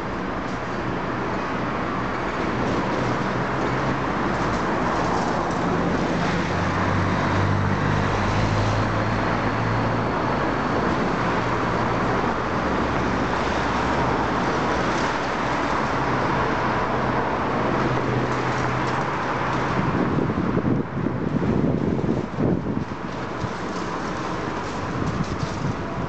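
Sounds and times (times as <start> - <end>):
excavator diesel engine and hydraulics: 0.0 - 26.0
street traffic: 0.0 - 26.0.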